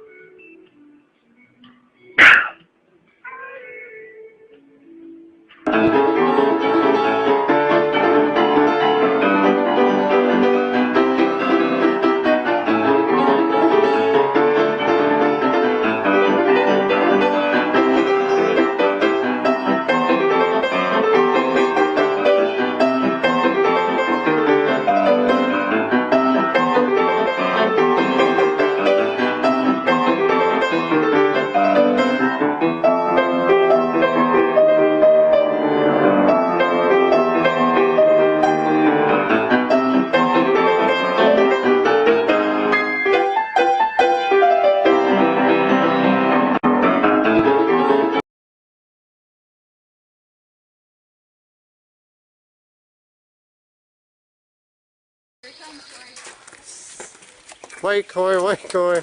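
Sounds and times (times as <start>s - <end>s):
piano music: 0.0s - 2.4s, 3.1s - 48.2s.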